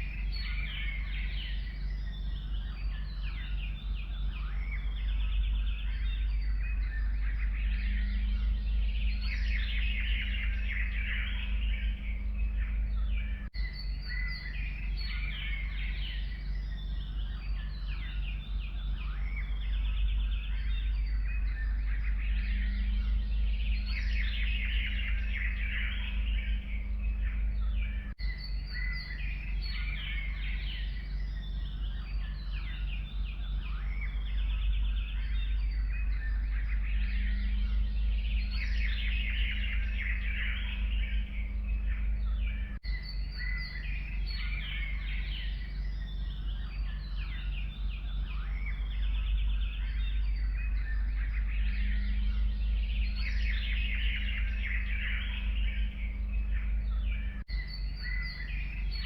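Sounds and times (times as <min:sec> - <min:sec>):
songbirds chirping and trilling: 0:00.0 - 0:59.0
steady low rumble: 0:00.0 - 0:59.0.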